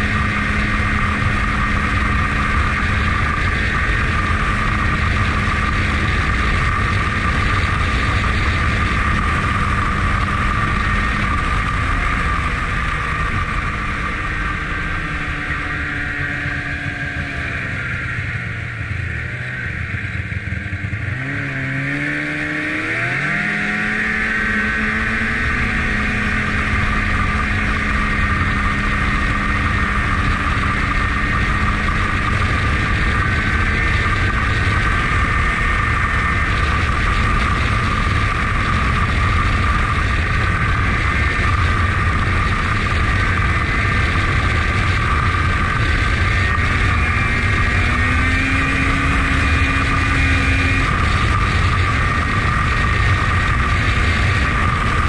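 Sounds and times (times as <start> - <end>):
snowmobile engine: 0.0 - 55.0.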